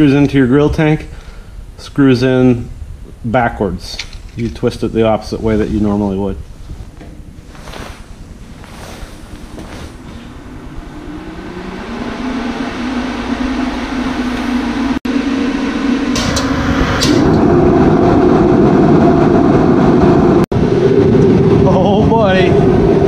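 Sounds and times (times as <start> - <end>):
forced-air heater flame rushing: 0.0 - 23.0
heater fan motor humming: 0.0 - 23.0.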